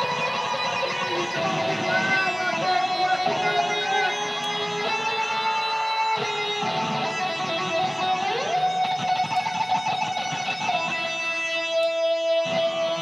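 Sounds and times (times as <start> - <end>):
live band music: 0.0 - 12.1
electric guitar lead notes: 0.0 - 13.0.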